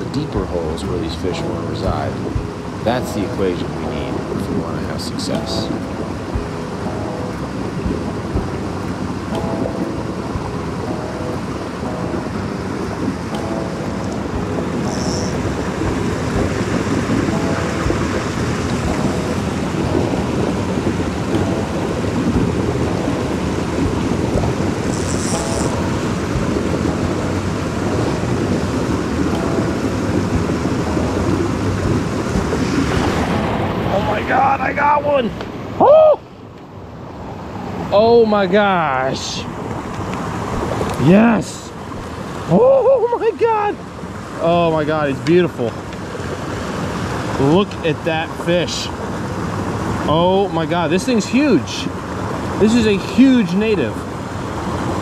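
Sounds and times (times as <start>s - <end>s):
water rushing over boulders: 0.0s - 55.0s.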